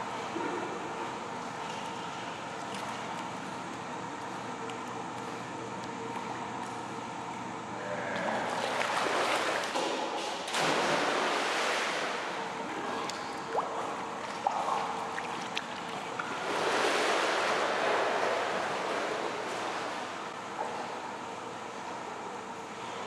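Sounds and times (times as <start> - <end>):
pool water splashing: 0.0 - 5.4, 8.3 - 22.0.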